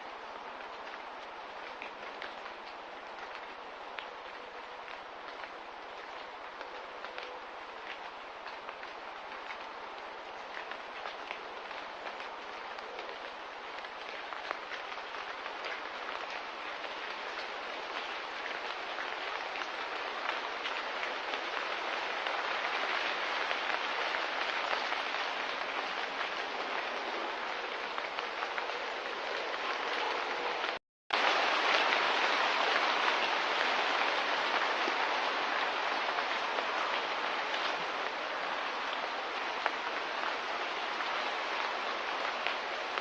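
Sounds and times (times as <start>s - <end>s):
steady rain with drop ticks: 0.0s - 43.0s.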